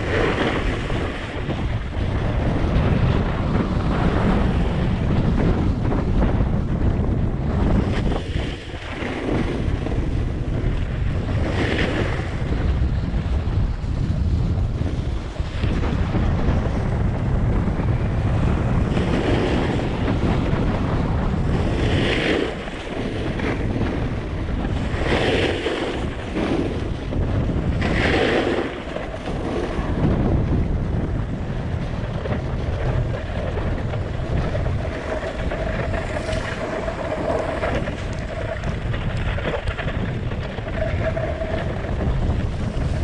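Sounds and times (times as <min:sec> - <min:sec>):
snowboard scraping over snow: 0:00.0 - 0:43.0
wind buffeting microphone: 0:00.0 - 0:43.0.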